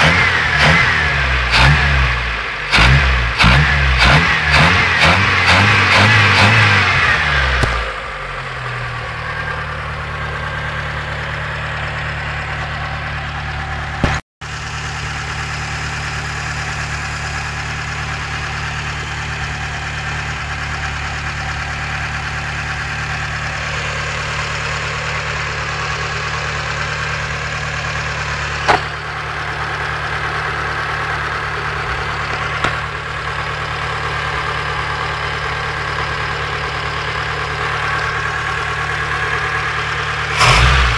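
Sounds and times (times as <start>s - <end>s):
engine idling with knock: 7.3s - 40.9s.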